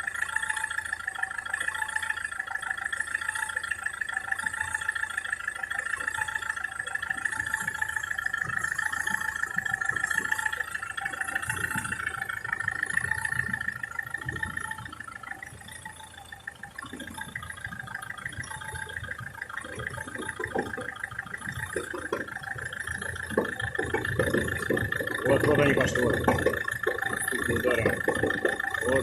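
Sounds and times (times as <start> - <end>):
diesel engine clattering: 0.0 - 29.0.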